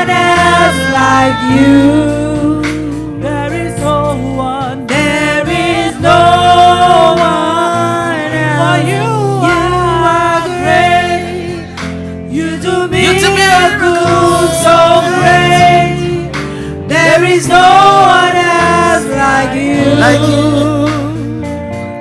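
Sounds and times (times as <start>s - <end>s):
men and women singing: 0.0s - 21.3s
instrumental accompaniment: 0.0s - 22.0s.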